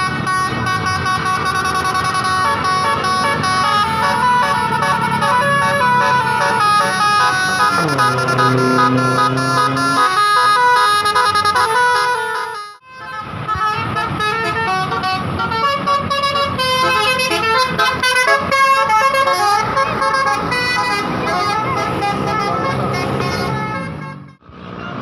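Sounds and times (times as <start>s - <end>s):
musical air horns playing a tune: 0.0s - 24.4s
low rumble of bus: 0.0s - 25.0s.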